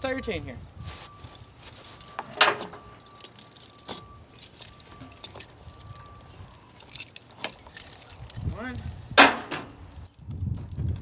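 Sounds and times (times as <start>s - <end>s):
tire chain links clinking: 1.0s - 11.0s.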